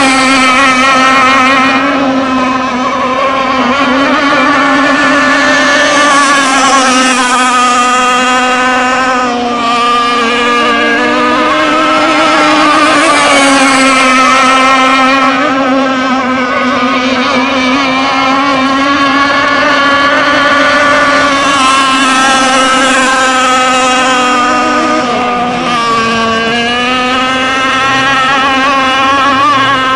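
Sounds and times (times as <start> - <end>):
model boat engine high buzz: 0.0 - 29.9.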